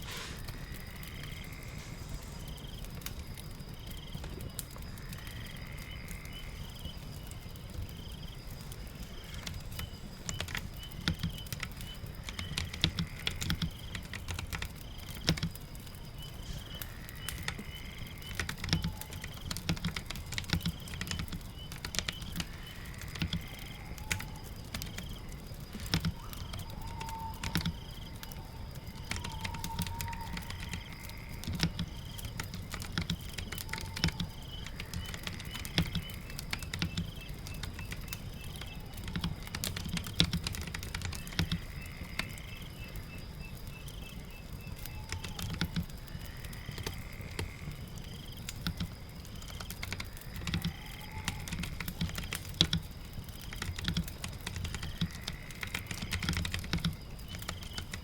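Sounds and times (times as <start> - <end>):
fireplace crackle: 0.0 - 58.0
rain: 0.0 - 58.0
typing on a keyboard: 9.1 - 42.9, 44.7 - 58.0.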